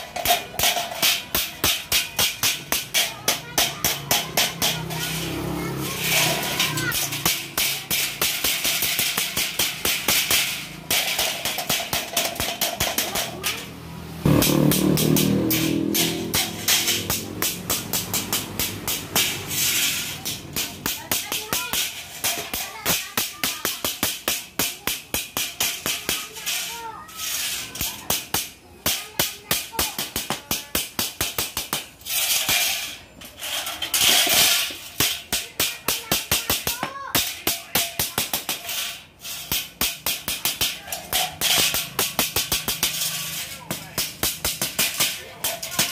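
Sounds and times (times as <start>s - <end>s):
hammer tapping sheet metal: 0.0s - 32.9s, 34.0s - 45.9s.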